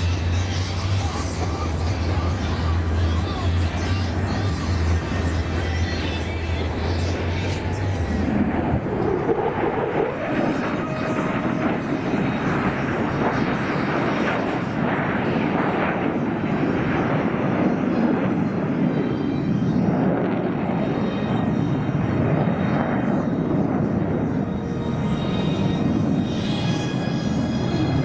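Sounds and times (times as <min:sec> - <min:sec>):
jet engines rumbling overhead: 0:00.0 - 0:28.0.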